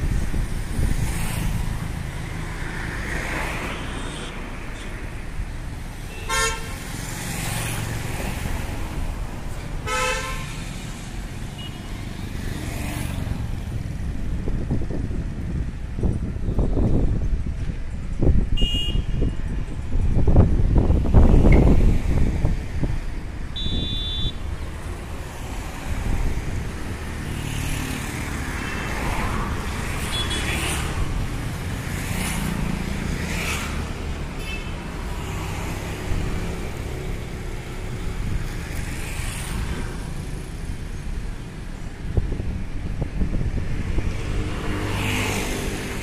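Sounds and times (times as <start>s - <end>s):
cars passing: 0.0s - 46.0s
road traffic: 0.0s - 46.0s.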